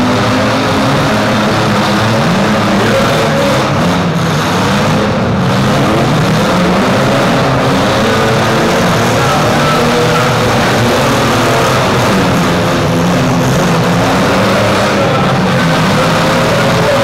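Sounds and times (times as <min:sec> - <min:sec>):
many engines revving: 0:00.0 - 0:17.0.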